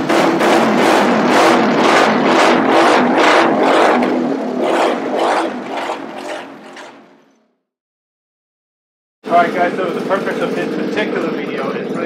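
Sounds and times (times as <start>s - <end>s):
pulsing kart engine running: 0.0s - 7.3s, 9.2s - 12.0s.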